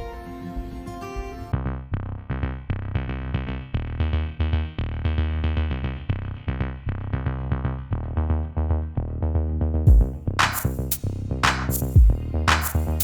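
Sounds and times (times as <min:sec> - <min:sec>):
electronic music with heavy bass: 0:00.0 - 0:13.0.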